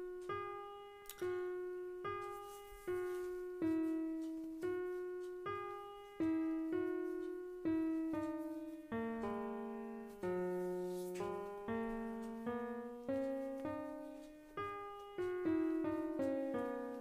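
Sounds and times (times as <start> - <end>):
slow piano-like keyboard melody: 0.0 - 17.0.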